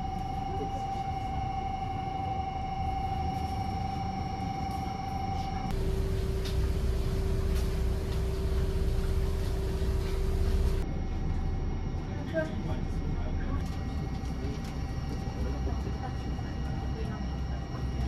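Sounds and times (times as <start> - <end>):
high equipment whine: 0.0 - 18.0
low rumble with steady tone: 0.0 - 18.0
train car interior hum: 0.0 - 18.0.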